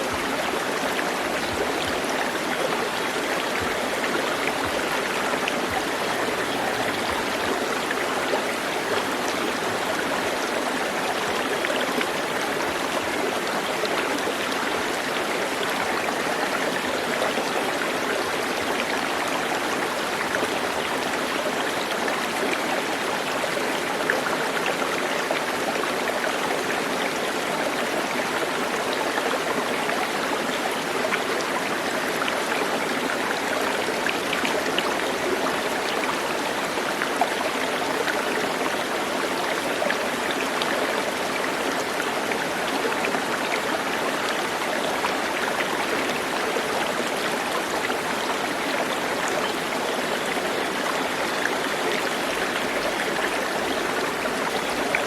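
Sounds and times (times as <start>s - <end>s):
stream water rushing and trickling: 0.0s - 55.0s.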